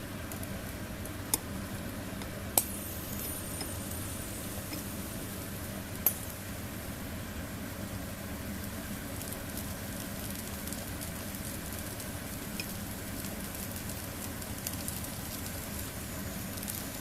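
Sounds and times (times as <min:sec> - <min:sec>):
steady low hiss of fire: 0:00.0 - 0:17.0.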